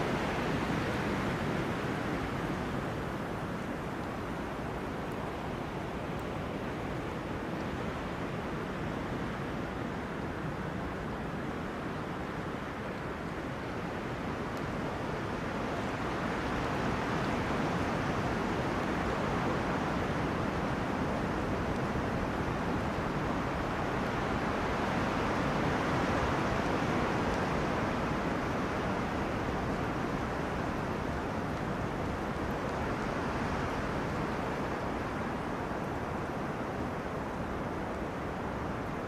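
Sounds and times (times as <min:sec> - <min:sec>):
wind rushing through trees: 0:00.0 - 0:39.0.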